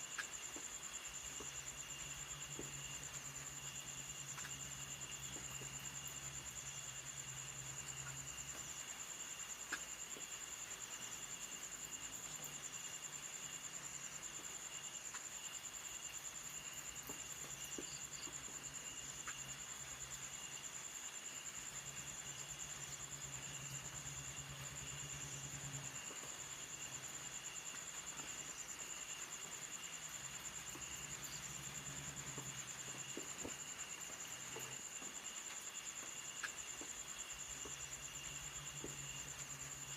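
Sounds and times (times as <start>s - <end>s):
lower insect trill: 0.0s - 39.9s.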